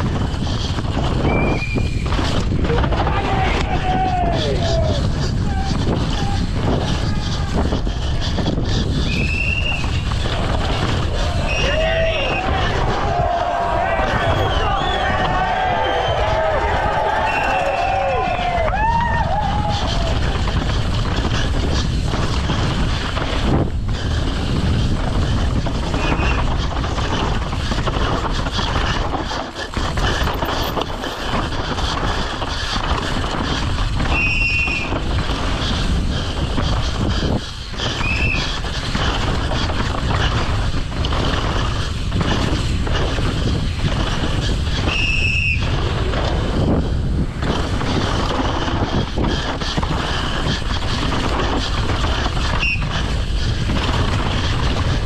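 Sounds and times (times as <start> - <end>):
bike rattling and knocks: 0.0 - 15.7, 16.8 - 55.0
bike tyre rumble: 0.0 - 55.0
wind: 0.0 - 55.0.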